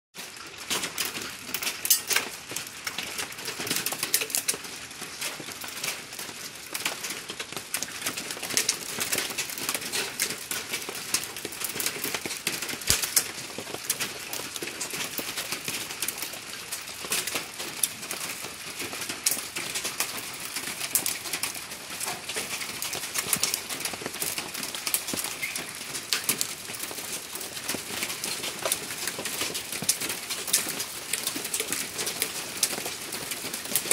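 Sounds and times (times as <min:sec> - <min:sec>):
hail pattering on ground: 0:00.2 - 0:33.9.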